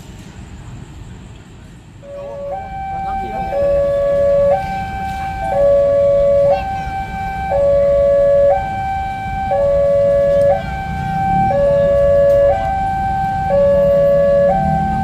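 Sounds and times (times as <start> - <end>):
low steady rumble: 1.8 - 15.0
two-tone siren: 2.0 - 15.0.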